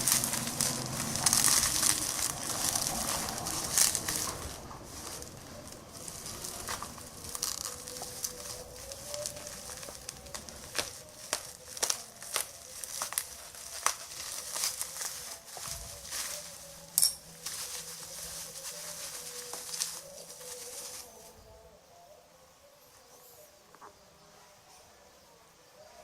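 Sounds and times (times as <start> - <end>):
plastic packaging crinkling: 0.0 - 21.4.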